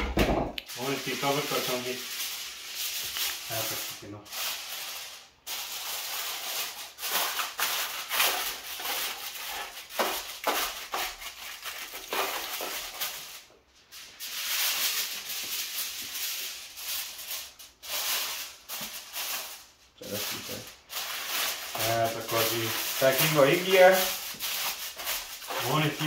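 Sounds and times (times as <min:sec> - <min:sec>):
aluminium foil crinkling: 0:00.6 - 0:26.0.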